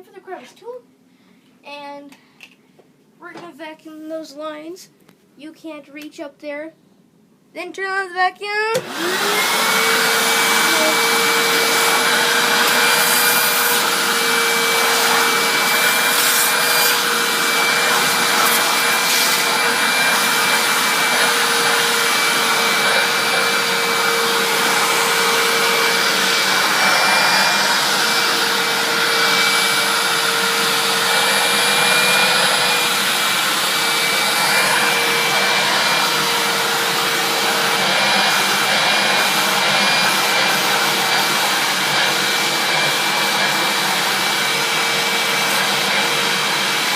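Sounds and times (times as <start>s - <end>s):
vacuum cleaner running: 8.7s - 46.9s.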